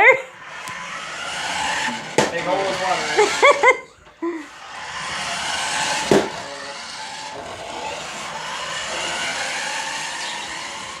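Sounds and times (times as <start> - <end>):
remote-control car motor whirring: 0.0 - 11.0.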